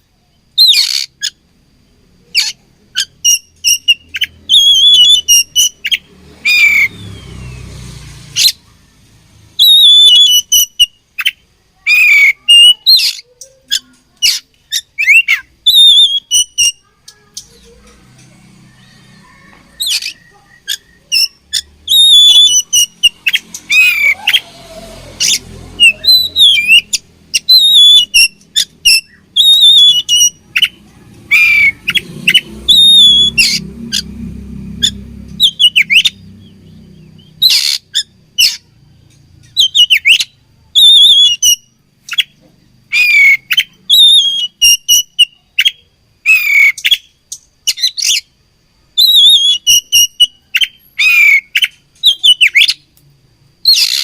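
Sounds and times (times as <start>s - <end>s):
bird singing whistled notes: 0.3s - 1.4s, 2.2s - 17.8s, 18.5s - 24.5s, 25.2s - 52.9s, 53.6s - 54.0s.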